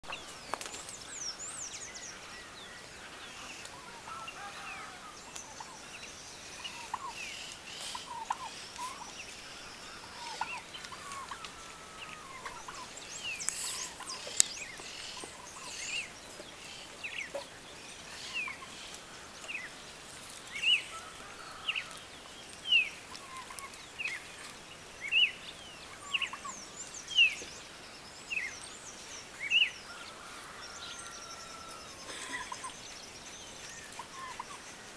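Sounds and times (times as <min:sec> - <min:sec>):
outdoor background noise: 0:00.0 - 0:34.9.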